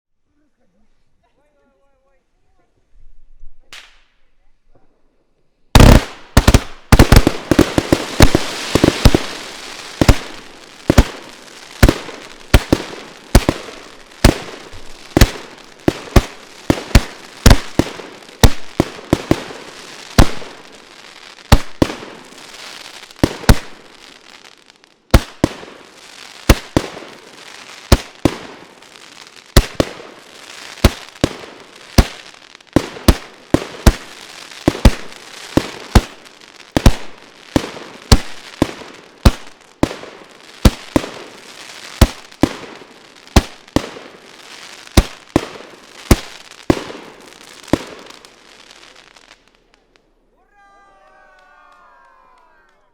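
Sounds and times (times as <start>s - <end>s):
firework crackling and bursts: 3.6s - 4.3s, 5.6s - 52.9s.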